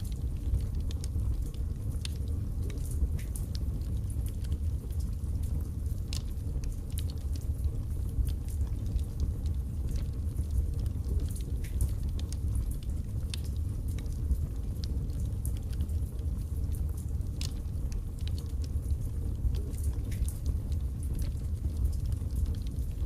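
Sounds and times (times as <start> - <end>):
fire crackling and popping: 0.0 - 23.0
low rush of flame: 0.0 - 23.0.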